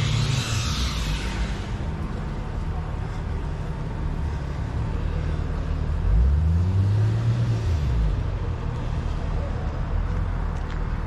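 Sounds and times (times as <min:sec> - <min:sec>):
vehicle engine passing by: 0:00.0 - 0:10.3
low rumble of city traffic: 0:00.0 - 0:11.0.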